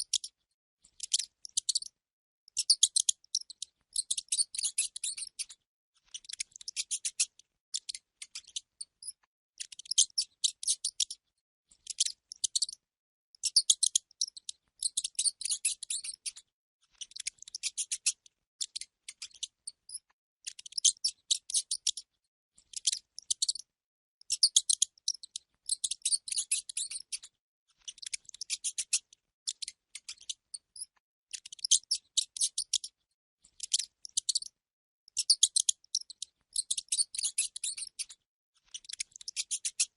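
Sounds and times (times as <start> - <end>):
rat squeaking and chittering: 0.0 - 12.8, 13.4 - 39.9.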